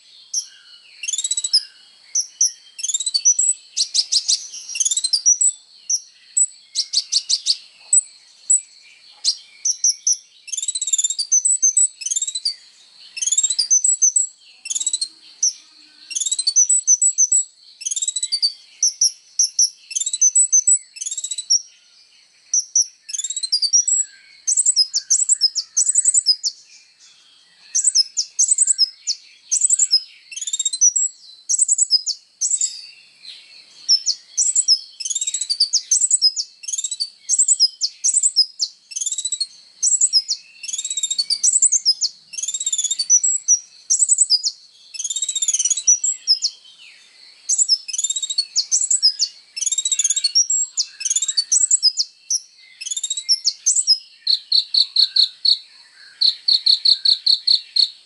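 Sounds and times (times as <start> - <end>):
bird singing chirps and trills: 0.0 - 58.0.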